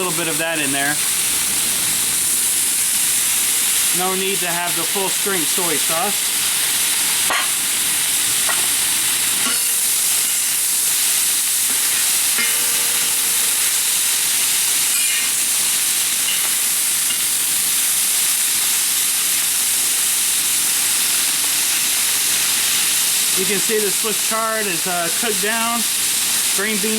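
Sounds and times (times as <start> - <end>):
food sizzling in a wok: 0.0 - 26.9.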